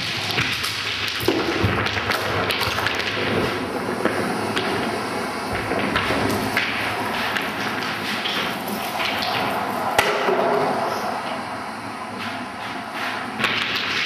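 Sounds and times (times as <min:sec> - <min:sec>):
continuous noisy background: 0:00.0 - 0:14.0.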